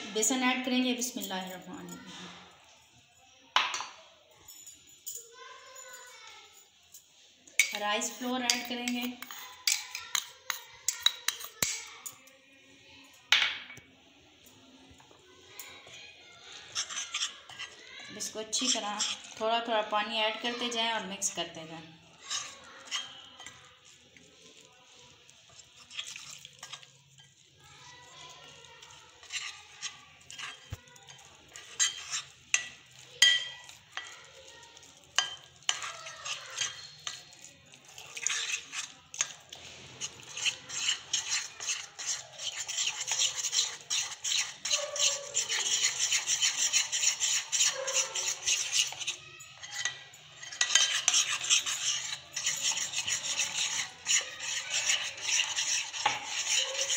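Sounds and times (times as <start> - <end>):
metal spoon stirring batter: 0.0 - 56.9.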